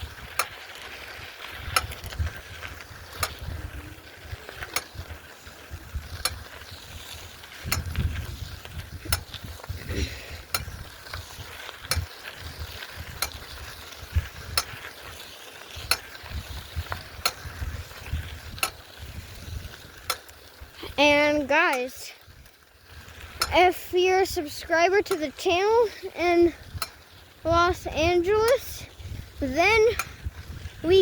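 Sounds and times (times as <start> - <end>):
bicycle low rumble: 0.0 - 31.0.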